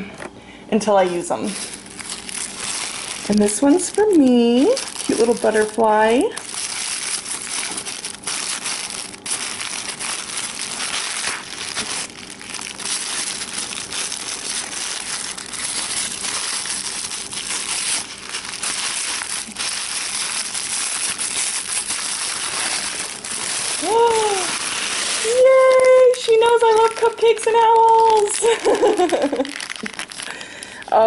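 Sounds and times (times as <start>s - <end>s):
tissue paper crinkling: 0.8s - 31.0s.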